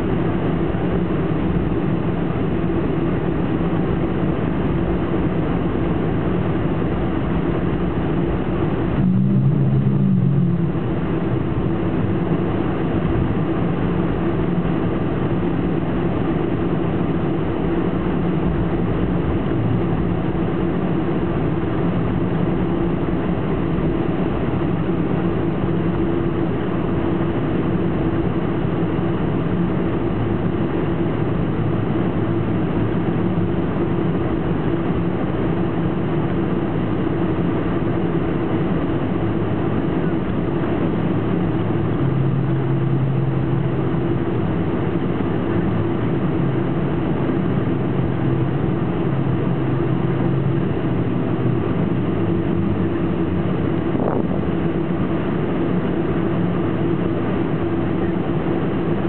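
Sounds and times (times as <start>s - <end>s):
airplane engine hum and rumble: 0.0s - 59.0s
steady low tones: 4.4s - 36.1s, 37.3s - 58.0s.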